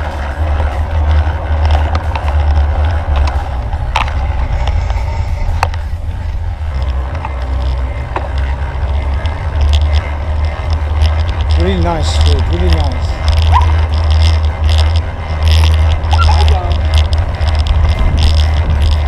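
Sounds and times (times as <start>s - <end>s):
clicks from bicycle wheels: 0.0s - 19.0s
tyres rolling on pavement: 0.0s - 19.0s
wind buffeting microphone: 0.0s - 19.0s.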